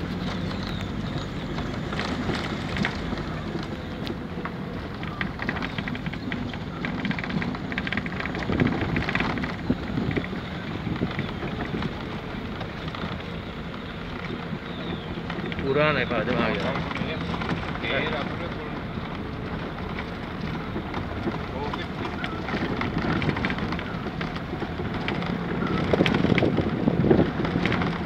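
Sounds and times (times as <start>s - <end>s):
car engine hum: 0.0s - 28.0s
small clicks and rattles: 0.0s - 28.0s
tyre noise: 0.0s - 28.0s
wind: 0.0s - 28.0s.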